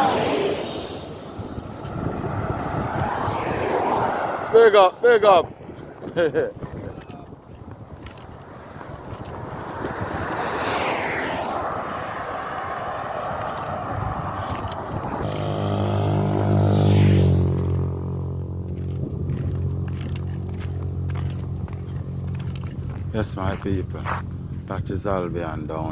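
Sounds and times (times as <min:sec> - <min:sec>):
vehicle engine drone passing: 0:00.0 - 0:06.1, 0:07.6 - 0:25.9
tyre and road noise: 0:00.0 - 0:25.9.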